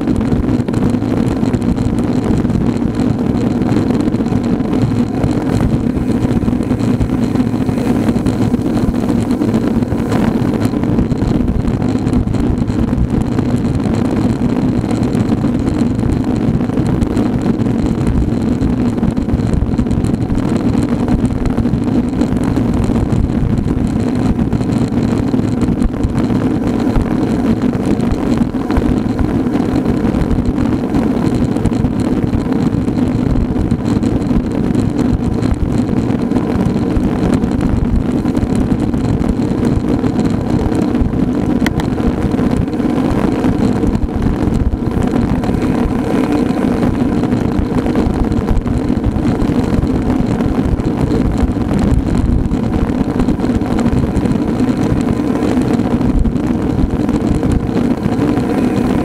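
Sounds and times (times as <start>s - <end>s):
bike tyre and road noise: 0.0s - 59.0s
wind on microphone: 0.0s - 59.0s.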